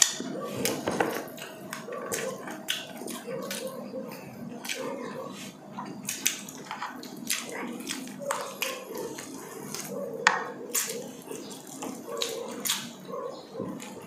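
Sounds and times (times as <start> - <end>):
wet chewing and lip-smacking: 0.0 - 14.0.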